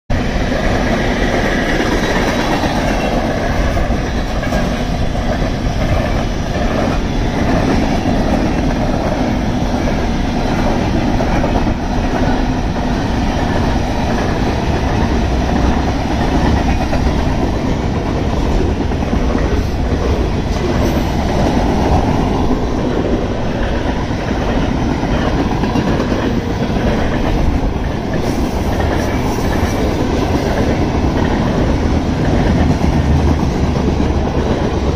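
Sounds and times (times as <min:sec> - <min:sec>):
train wheels rumbling on rails: 0:00.1 - 0:34.9
wheels clacking over rail joints: 0:00.3 - 0:34.9.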